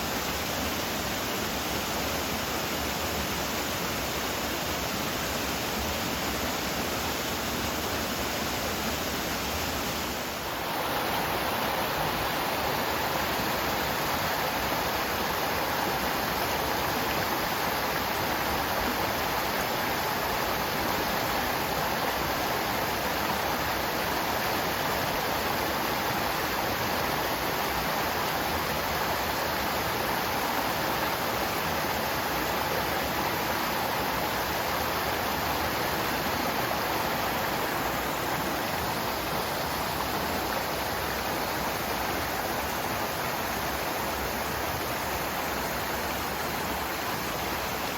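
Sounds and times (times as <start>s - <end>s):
stream rushing over its bed: 0.0s - 47.9s.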